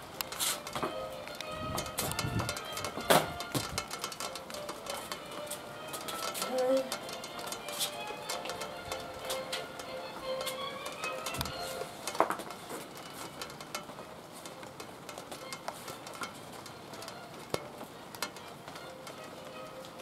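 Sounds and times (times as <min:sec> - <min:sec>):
faint recorded music: 0:00.0 - 0:20.0
light rain hiss: 0:00.0 - 0:20.0
shoes striking tiled floor: 0:00.0 - 0:20.0
castanets clicking: 0:00.2 - 0:20.0.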